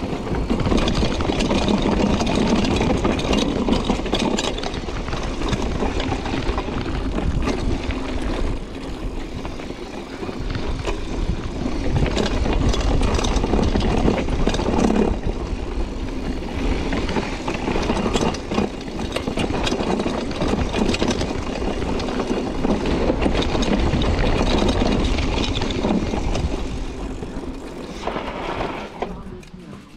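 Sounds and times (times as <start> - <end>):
wind noise on microphone: 0.0 - 29.1
bike rattling and clicking: 0.0 - 29.9
tyres rumbling over dirt: 0.0 - 29.9.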